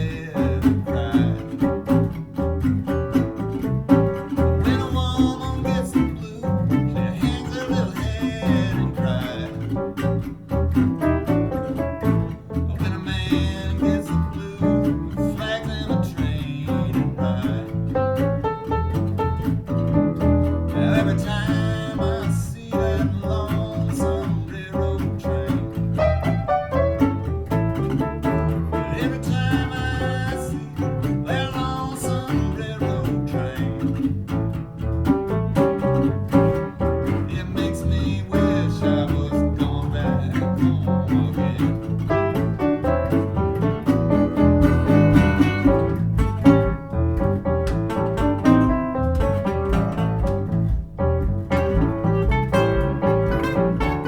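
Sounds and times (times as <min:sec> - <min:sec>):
acoustic country band playing: 0:00.0 - 0:54.0
bowed strings: 0:00.0 - 0:54.0
double bass: 0:00.0 - 0:54.0
guitar: 0:00.0 - 0:54.0.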